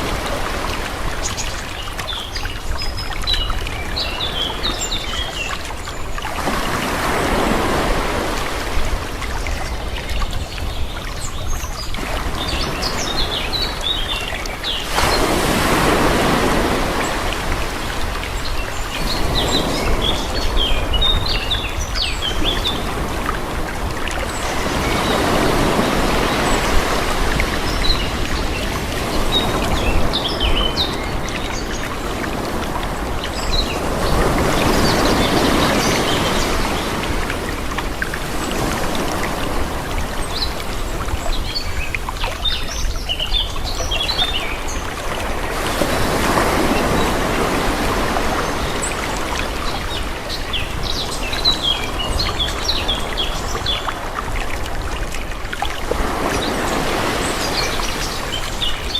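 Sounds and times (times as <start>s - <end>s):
gentle waves washing in: 0.0s - 58.9s.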